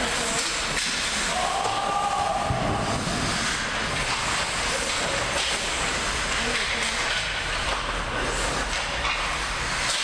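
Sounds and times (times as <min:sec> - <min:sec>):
echoing rink noise: 0:00.0 - 0:10.0
skates scraping ice: 0:00.0 - 0:10.0.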